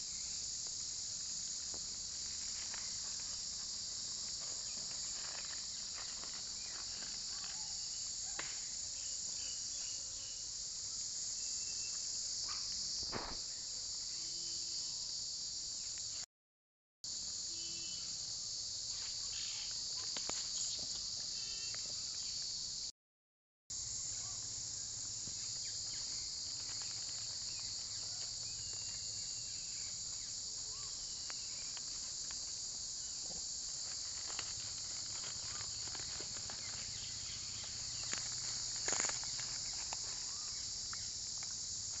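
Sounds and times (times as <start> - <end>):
high-pitched insect chorus: 0.0 - 16.3, 17.1 - 22.9, 23.7 - 42.0.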